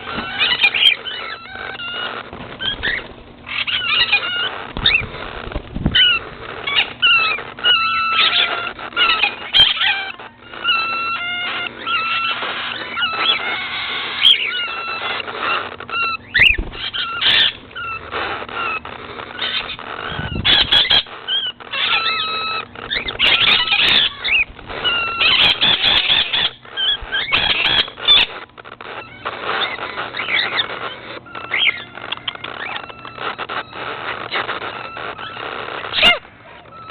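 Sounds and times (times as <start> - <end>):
parrots chirping and whistling: 0.0 - 36.9.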